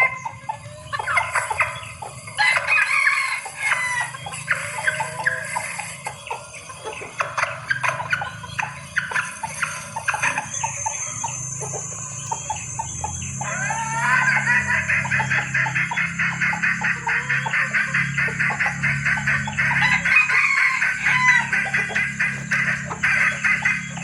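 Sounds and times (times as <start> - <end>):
hen clucking: 0.0 - 24.0
steady high whine: 0.9 - 24.0.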